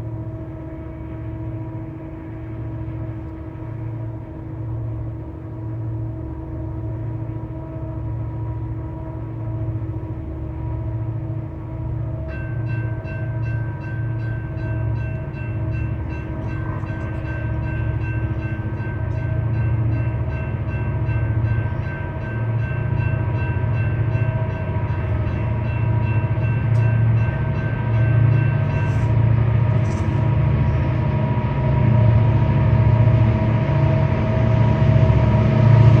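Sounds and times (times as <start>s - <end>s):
diesel locomotive rumbling: 0.0s - 36.0s.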